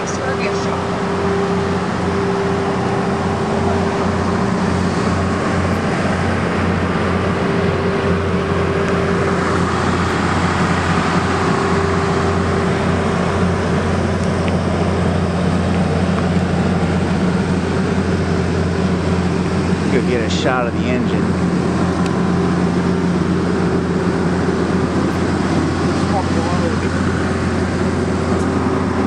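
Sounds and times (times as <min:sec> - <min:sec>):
humming tone: 0:00.0 - 0:29.0
train idling drone: 0:00.0 - 0:29.0.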